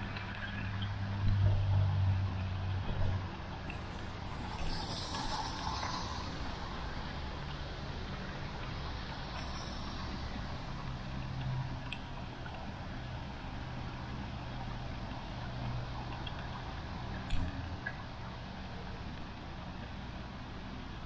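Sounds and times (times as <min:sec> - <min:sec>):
road traffic rushing: 0:00.0 - 0:21.0
tyres hissing on wet road: 0:00.0 - 0:21.0.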